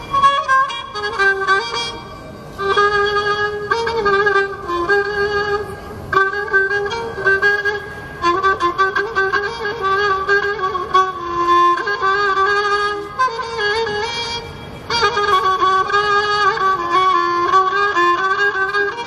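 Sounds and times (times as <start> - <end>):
bowed fiddle solo melody: 0.0 - 19.0.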